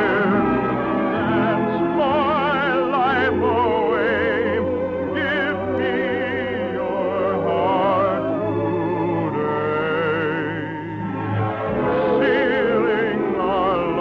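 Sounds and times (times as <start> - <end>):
operatic singing with vibrato: 0.0 - 14.0
orchestra: 0.0 - 14.0.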